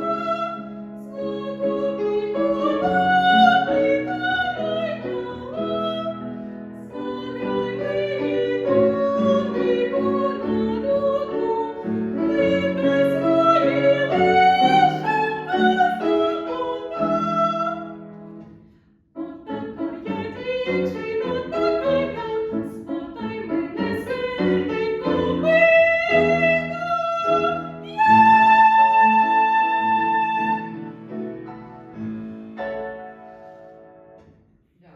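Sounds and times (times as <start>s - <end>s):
classical singing: 0.0s - 34.1s
piano chords: 0.0s - 34.5s.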